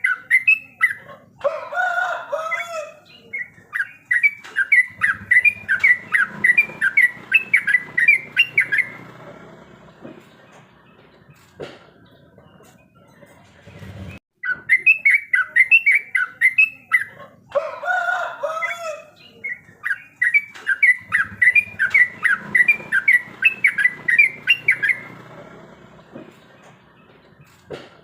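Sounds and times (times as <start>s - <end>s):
bulbul singing: 0.0s - 1.1s, 2.4s - 13.4s, 14.4s - 17.2s, 18.5s - 28.0s.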